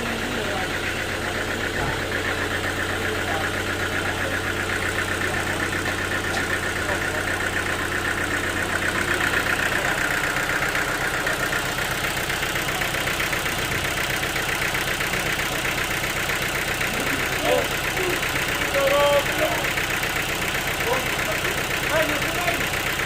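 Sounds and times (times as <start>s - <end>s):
sawmill machinery humming and pulsing: 0.0s - 23.0s.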